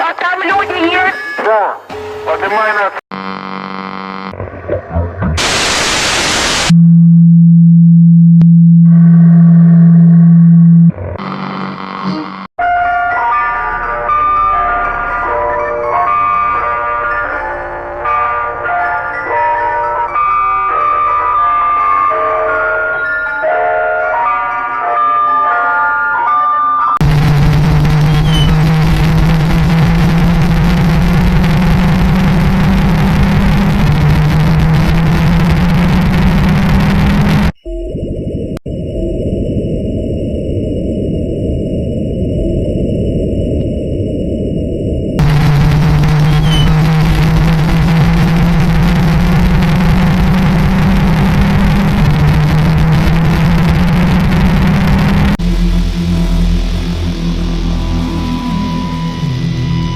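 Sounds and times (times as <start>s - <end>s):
low-pitched alarm drone: 3.2s - 24.4s, 26.9s - 59.9s.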